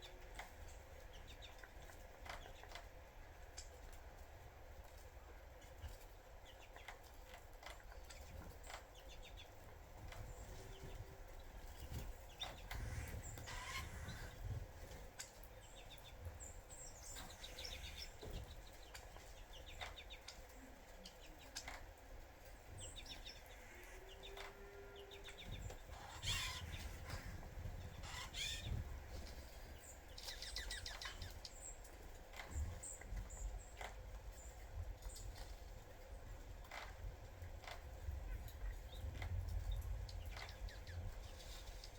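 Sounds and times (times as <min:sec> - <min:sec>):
birds pecking at seeds: 0:00.0 - 0:41.9
faint low rumble: 0:00.0 - 0:41.9
small birds chirping: 0:00.0 - 0:41.9.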